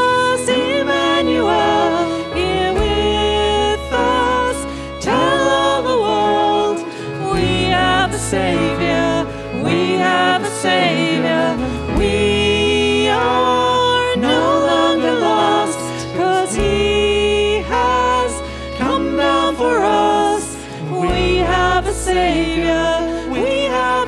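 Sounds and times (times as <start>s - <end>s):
acoustic guitar: 0.0s - 24.0s
keyboard: 0.0s - 24.0s
violin: 0.0s - 24.0s
women singing: 0.0s - 24.0s.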